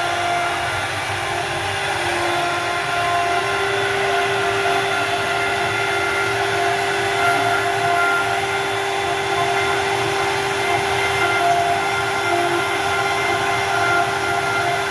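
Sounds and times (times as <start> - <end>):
cnc wood router whining: 0.0 - 14.9.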